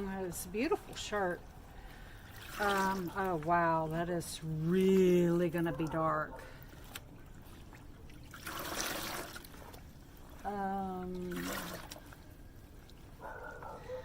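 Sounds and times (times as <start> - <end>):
liquid trickling and splashing: 0.2 - 13.8.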